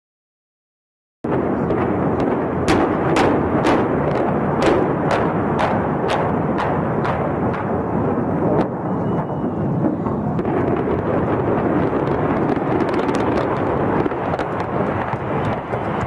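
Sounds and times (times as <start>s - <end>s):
deep rumbling noise: 1.2s - 16.0s.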